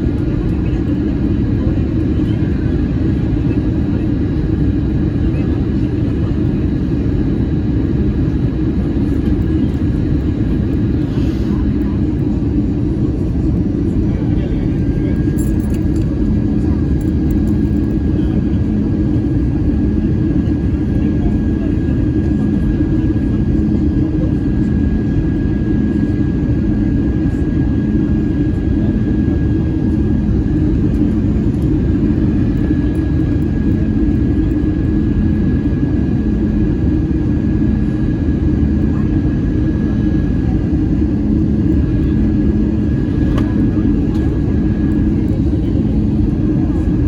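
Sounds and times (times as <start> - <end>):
airliner cabin engine rumble: 0.0 - 47.0
thin steady whine: 0.0 - 47.0.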